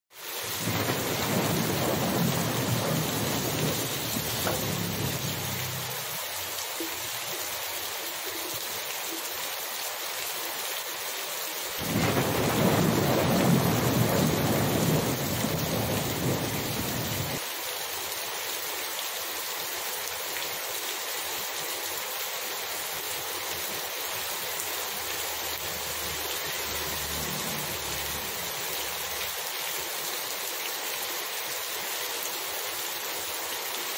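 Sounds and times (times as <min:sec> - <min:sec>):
heavy rain on hard surfaces: 0:00.1 - 0:33.9.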